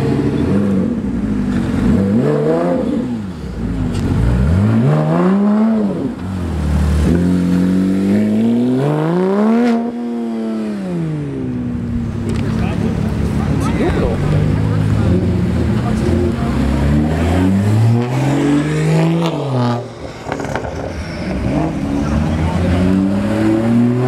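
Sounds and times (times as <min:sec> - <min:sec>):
sports car engines revving: 0:00.0 - 0:24.0.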